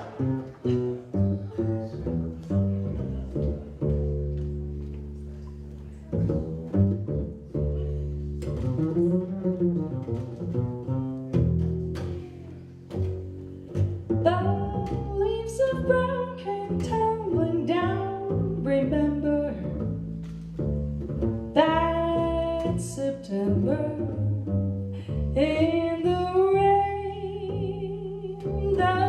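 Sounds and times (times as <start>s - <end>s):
double bass plucked: 0.0s - 29.0s.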